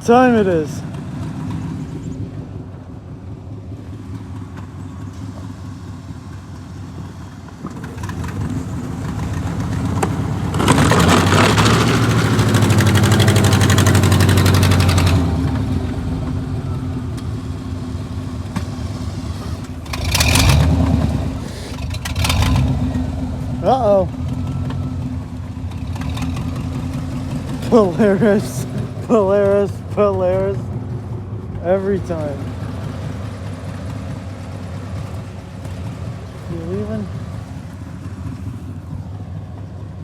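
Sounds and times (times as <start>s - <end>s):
vehicle engine revving: 0.0s - 40.0s.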